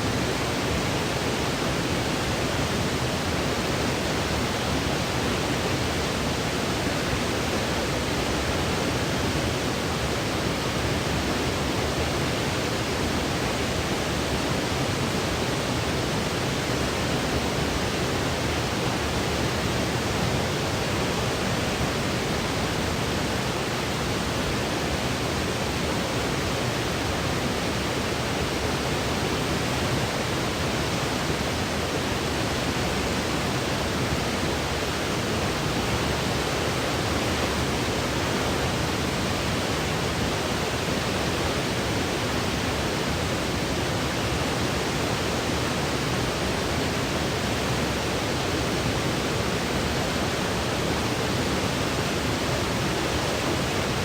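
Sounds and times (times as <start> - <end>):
steady white noise: 0.0 - 54.0.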